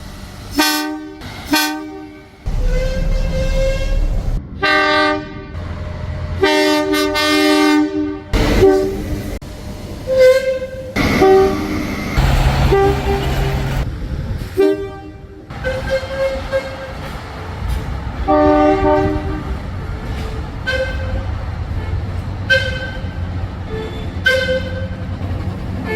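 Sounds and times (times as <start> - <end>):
train rumbling: 0.0 - 25.9
train horn blasts: 0.5 - 5.7, 6.4 - 9.2, 10.1 - 13.8, 14.6 - 25.1.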